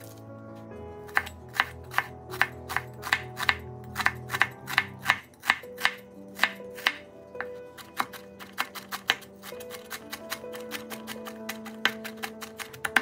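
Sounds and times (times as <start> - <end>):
knife slicing onion on wooden board: 1.1 - 13.0.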